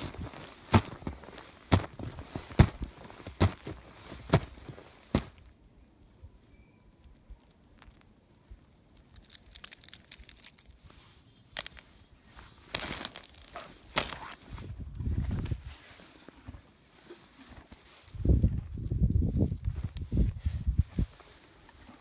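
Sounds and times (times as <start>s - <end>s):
icy grass and snow crunching: 0.0s - 5.7s, 7.0s - 22.0s.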